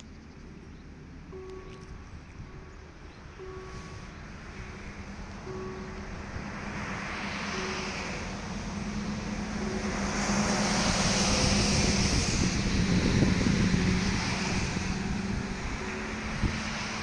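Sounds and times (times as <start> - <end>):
vehicle passing by: 2.9 - 17.0.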